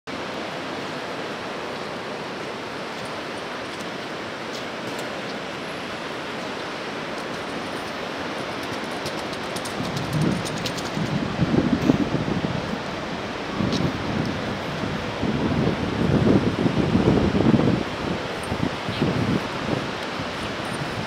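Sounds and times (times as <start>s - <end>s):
river water rushing over a weir: 0.1s - 21.0s.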